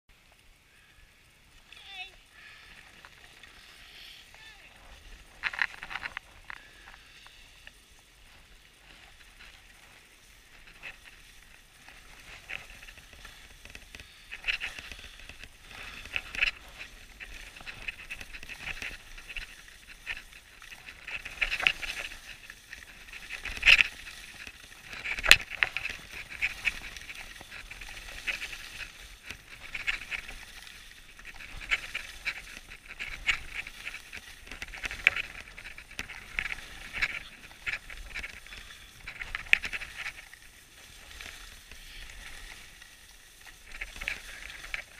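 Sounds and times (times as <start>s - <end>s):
skis scraping on snow: 0.2s - 44.9s.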